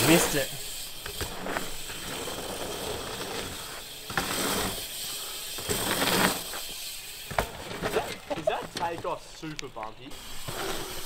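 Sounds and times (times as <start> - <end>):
bicycle tyres rolling on dirt: 0.0 - 11.0.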